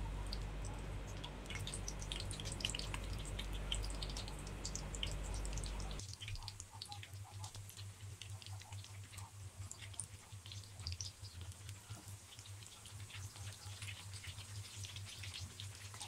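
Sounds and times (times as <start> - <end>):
battered food frying in oil: 0.0 - 16.0
low steady hum: 0.0 - 16.0.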